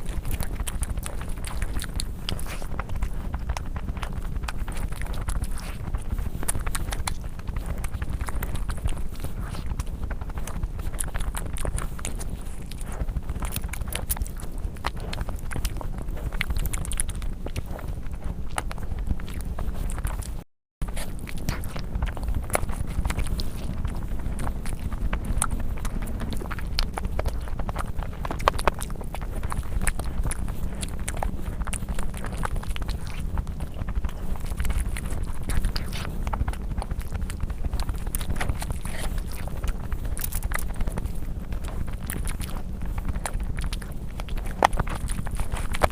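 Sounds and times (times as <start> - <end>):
chewing and mouth smacks: 0.0 - 45.9
low rumble: 0.0 - 45.9.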